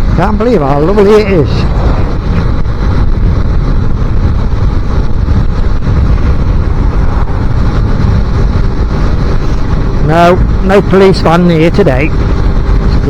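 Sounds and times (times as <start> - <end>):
motorbike engine running: 0.0 - 13.0
wind buffeting microphone: 0.0 - 13.0.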